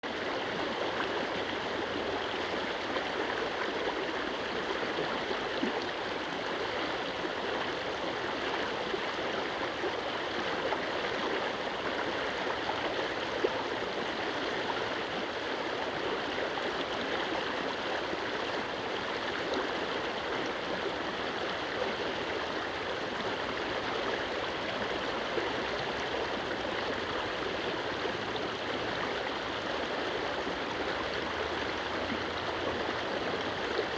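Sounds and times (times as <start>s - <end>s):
stream water rushing over stones: 0.1s - 33.9s.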